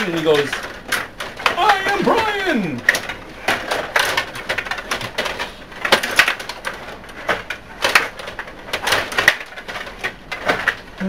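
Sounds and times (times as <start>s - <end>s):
table hockey clacks and knocks: 0.0s - 11.0s.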